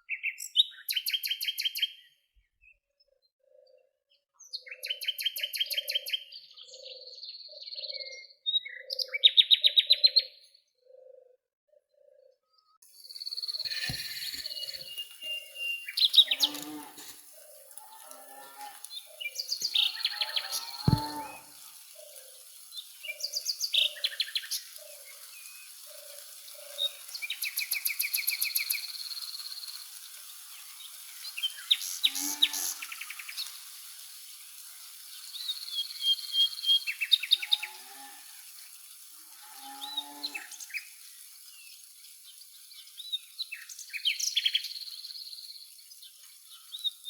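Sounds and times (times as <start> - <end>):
songbirds chirping and trilling: 0.0 - 33.5, 39.4 - 47.0.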